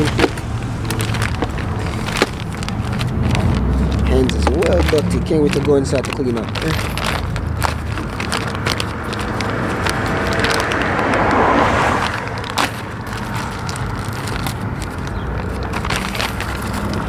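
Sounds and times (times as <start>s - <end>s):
plastic parts clicking and knocking: 0.0s - 11.2s, 12.0s - 17.0s.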